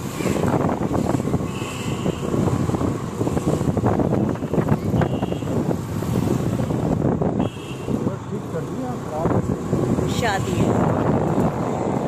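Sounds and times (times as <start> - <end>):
wind buffeting microphone: 0.0 - 8.3, 9.0 - 12.0
road and traffic noise: 0.0 - 12.0.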